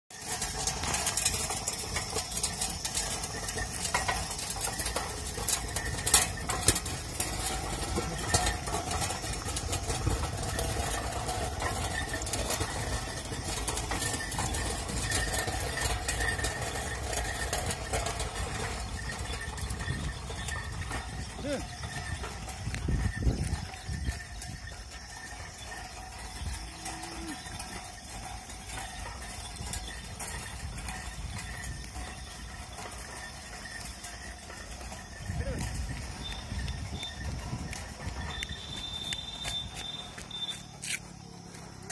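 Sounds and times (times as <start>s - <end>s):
cart wheels rattling on road: 0.0s - 41.9s.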